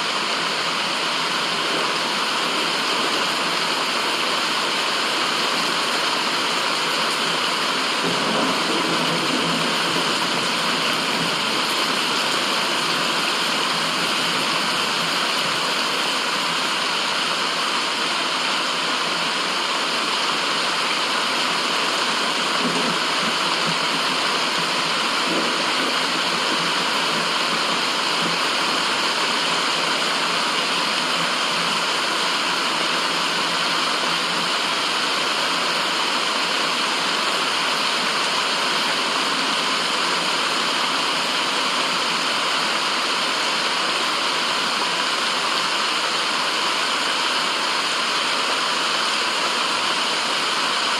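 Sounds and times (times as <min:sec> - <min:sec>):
falling water rushing: 0:00.0 - 0:50.9.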